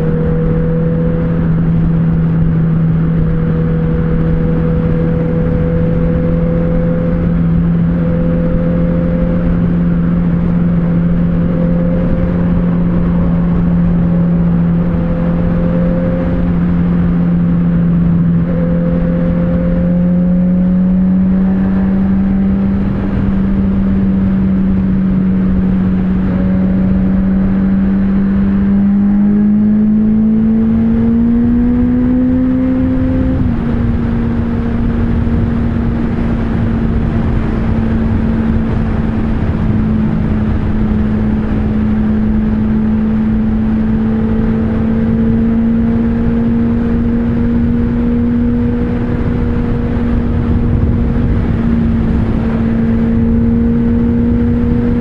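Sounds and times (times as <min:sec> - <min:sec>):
motorcycle engine at speed: 0:00.0 - 0:55.0
wind rushing over microphone: 0:00.0 - 0:55.0.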